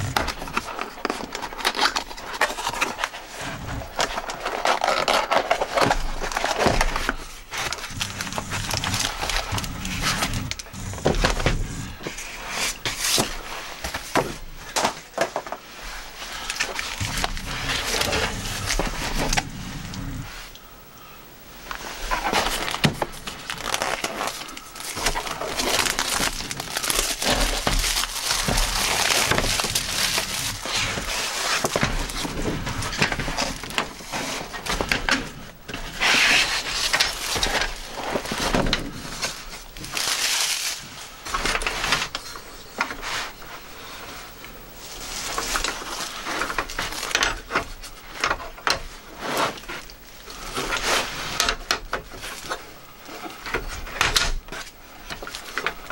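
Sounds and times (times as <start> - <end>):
plastic wrapping crinkling: 0.0 - 20.6, 21.6 - 44.1, 44.8 - 55.9.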